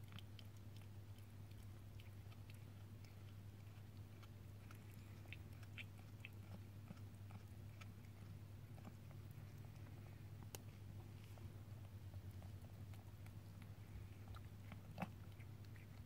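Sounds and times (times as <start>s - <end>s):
cat chewing and licking: 0.0s - 16.0s
steady low hum: 0.0s - 16.0s.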